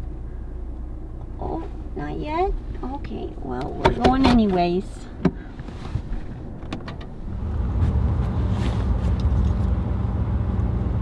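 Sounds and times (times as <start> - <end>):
car engine drone: 0.0 - 11.0.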